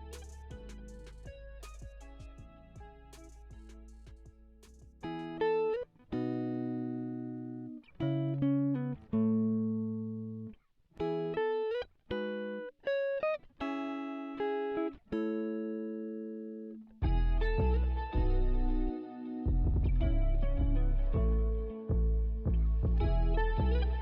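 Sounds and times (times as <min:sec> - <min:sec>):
plucked guitar melody: 0:00.0 - 0:24.0.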